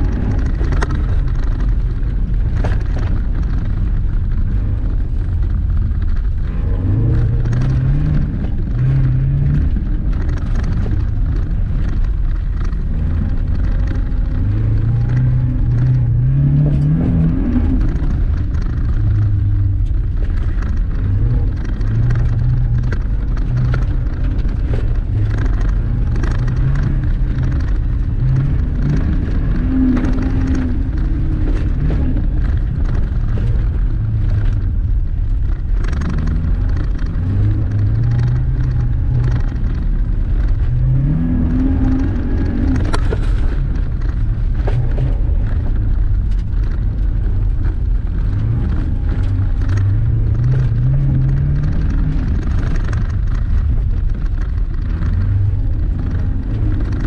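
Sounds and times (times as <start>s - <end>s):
car engine revving: 0.0s - 57.0s
tyre and road noise: 0.0s - 57.0s.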